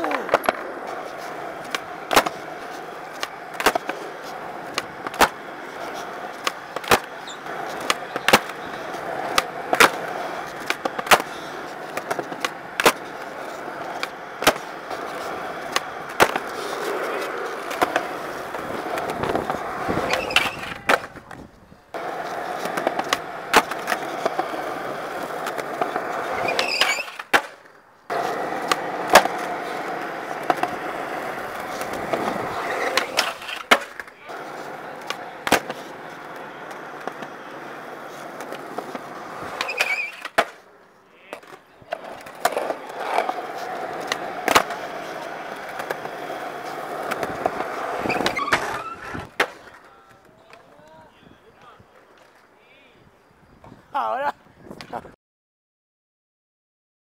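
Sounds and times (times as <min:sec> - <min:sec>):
skateboard deck clacking: 0:00.0 - 0:40.7, 0:41.3 - 0:52.4
skateboard wheels rolling on concrete: 0:00.0 - 0:55.2.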